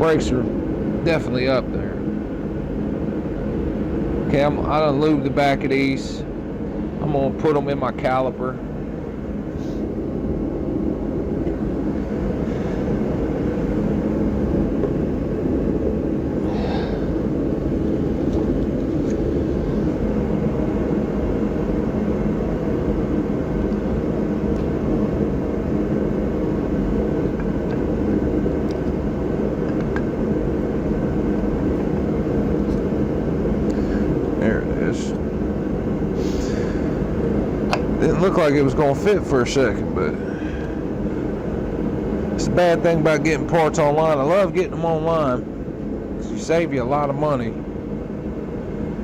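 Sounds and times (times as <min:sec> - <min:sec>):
machine hum: 0:00.0 - 0:49.0.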